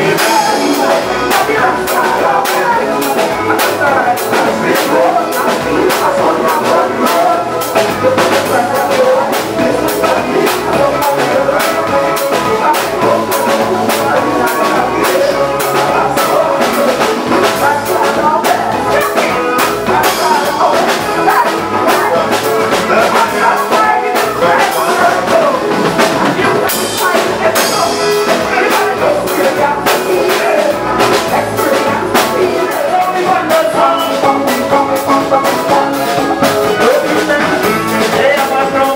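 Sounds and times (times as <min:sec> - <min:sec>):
brass horns: 0:00.0 - 0:38.9
drum kit beat: 0:00.0 - 0:38.9
live band playing: 0:00.0 - 0:38.9.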